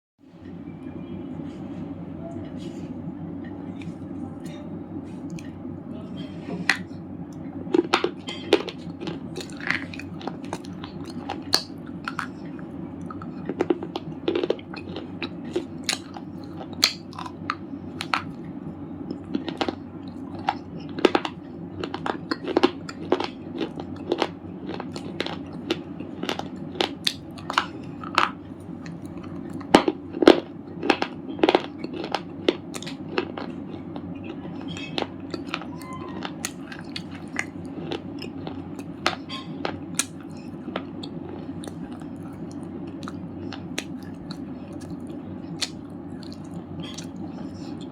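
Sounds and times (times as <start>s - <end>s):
chewing crunchy stone chips: 7.6s - 47.9s.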